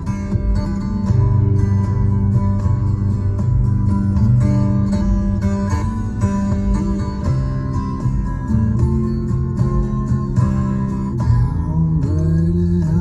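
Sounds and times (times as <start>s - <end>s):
acoustic guitar blues: 0.0s - 13.0s
bass line: 0.0s - 13.0s.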